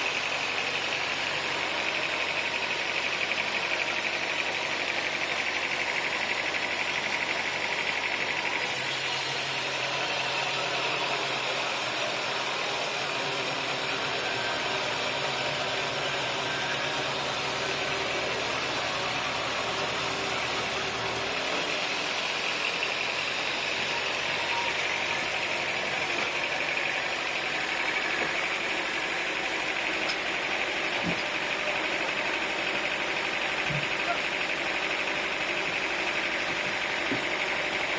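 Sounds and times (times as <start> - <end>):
sawmill engine running: 0.0 - 37.9.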